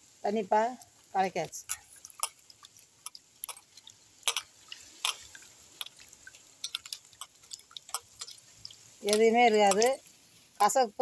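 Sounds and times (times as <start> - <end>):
small splashes and drips: 0.8 - 10.7.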